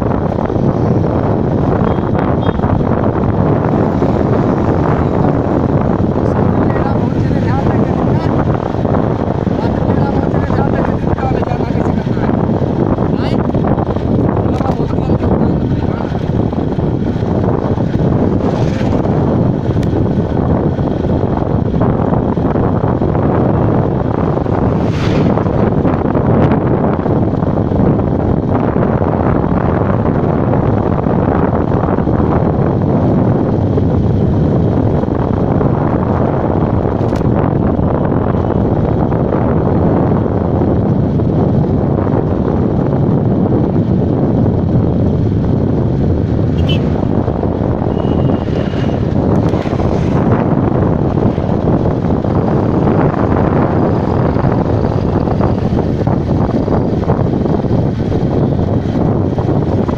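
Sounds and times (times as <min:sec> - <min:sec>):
vehicle road and engine noise: 0:00.0 - 0:59.9
wind rush on microphone: 0:00.0 - 0:59.9.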